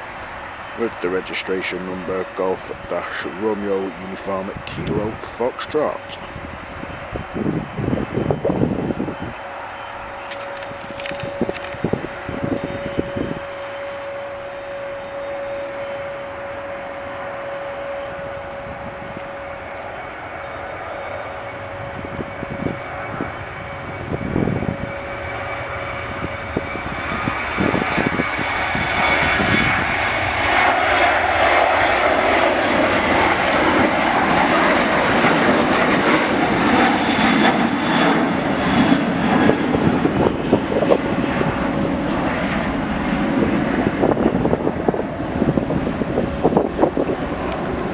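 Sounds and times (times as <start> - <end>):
jet airliner engines: 0.0 - 47.9
thin steady whine: 0.0 - 47.9
wind buffeting microphone: 0.0 - 47.9.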